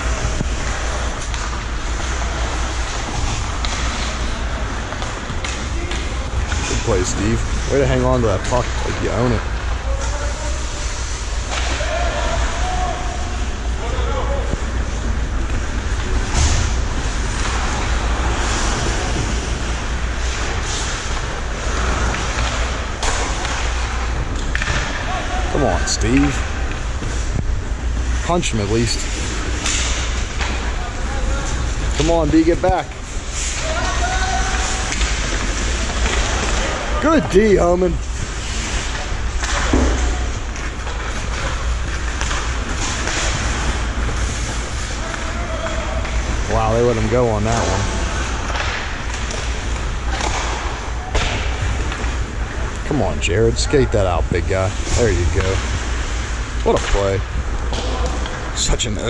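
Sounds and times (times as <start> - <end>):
steady low rumble: 0.0 - 11.6, 12.2 - 33.6, 34.4 - 59.0
skates scraping ice: 0.0 - 52.7.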